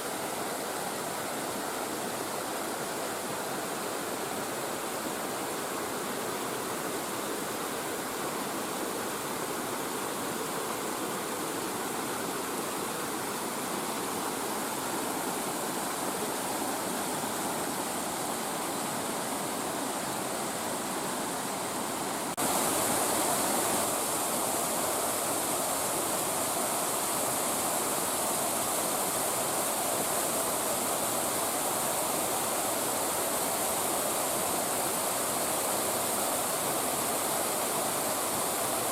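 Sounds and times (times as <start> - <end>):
mountain stream rushing over rocks: 0.0 - 38.9.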